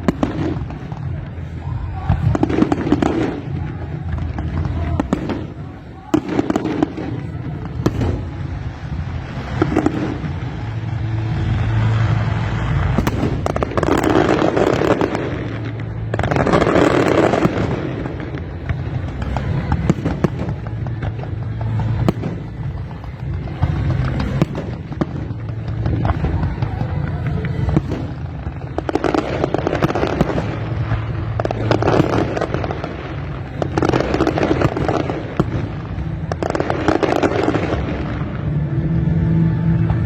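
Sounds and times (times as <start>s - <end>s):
fireworks bangs: 0.0s - 40.0s
fireworks popping and crackling: 0.0s - 40.0s.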